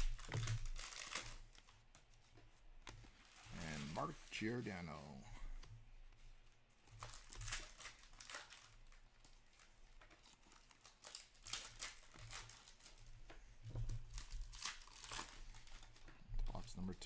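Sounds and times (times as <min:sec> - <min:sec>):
cards rustling and swishing: 0:00.0 - 0:16.9.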